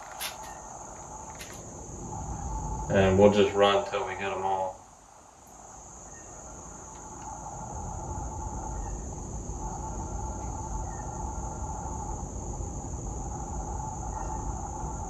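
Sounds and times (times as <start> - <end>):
crickets chirping: 0.0 - 15.0
low rumble: 0.6 - 15.0.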